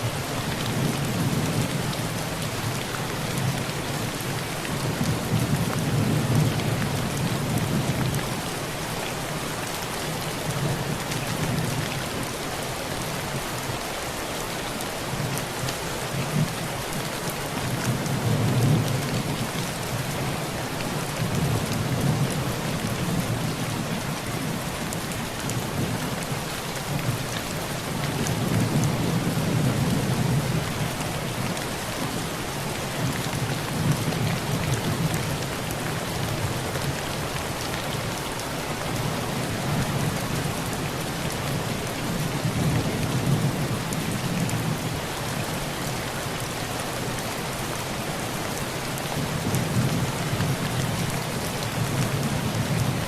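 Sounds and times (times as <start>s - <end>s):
heavy rain on a tin roof: 0.0s - 53.0s.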